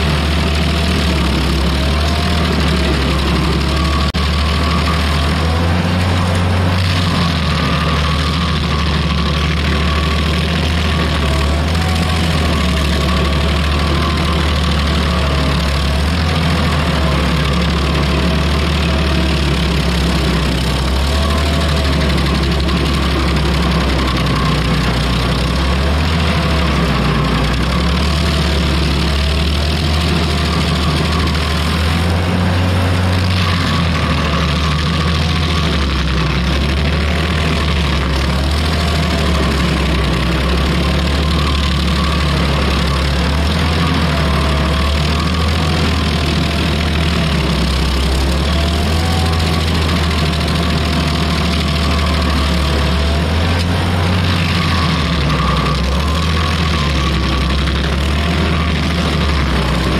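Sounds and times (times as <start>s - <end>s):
cutter wheel chipping wood: 0.0s - 59.9s
stump grinder engine running: 0.0s - 59.9s.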